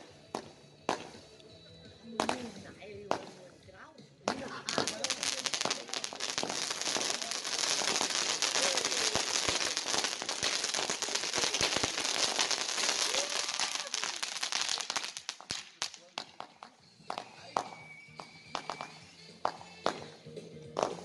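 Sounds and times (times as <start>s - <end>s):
fireworks crackling: 0.0s - 1.3s, 2.2s - 3.5s, 4.3s - 20.1s.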